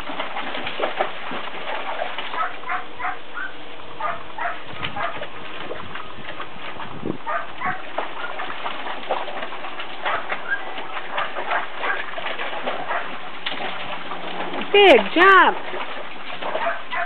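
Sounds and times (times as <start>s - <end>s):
dog splashing in water: 0.0s - 17.0s
water rushing: 0.0s - 17.0s.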